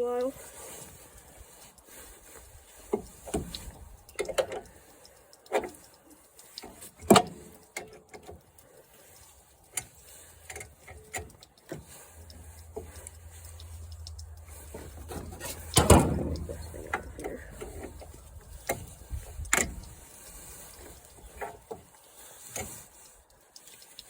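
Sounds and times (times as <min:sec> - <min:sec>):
tools and metal parts clicking: 0:02.8 - 0:24.0.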